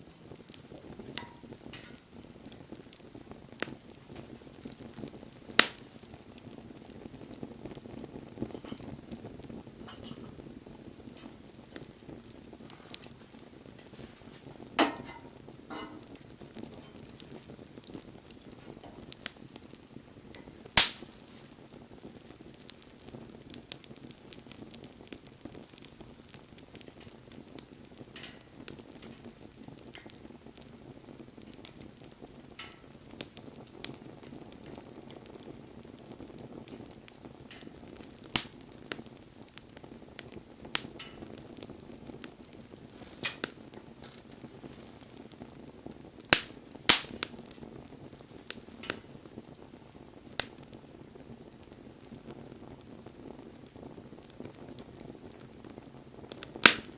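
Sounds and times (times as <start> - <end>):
burning wood popping: 0.0 - 56.9
campfire crackling: 0.0 - 56.9.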